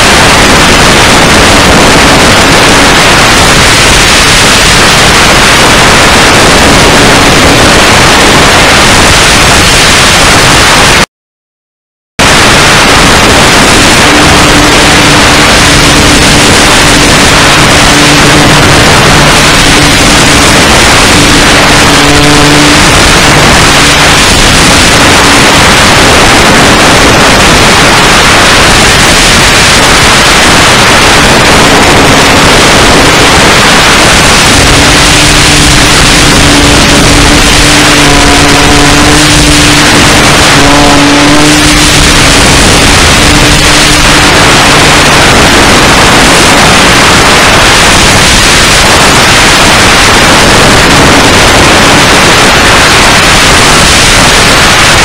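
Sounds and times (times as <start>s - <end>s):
model plane motor running: 0.0s - 10.8s, 12.2s - 55.0s
wind rushing over microphone: 0.0s - 11.1s, 12.2s - 55.0s.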